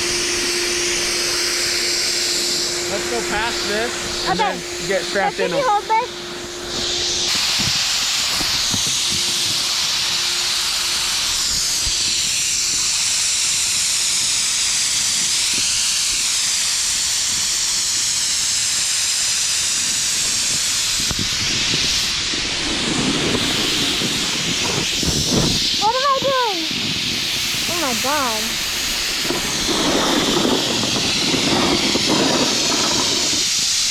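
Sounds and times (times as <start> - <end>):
snow gun spray hiss: 0.0 - 33.9.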